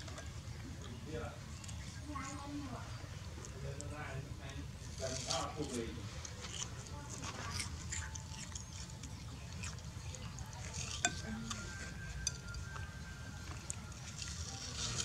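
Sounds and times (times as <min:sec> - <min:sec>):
monkey chewing and smacking: 0:00.0 - 0:15.0.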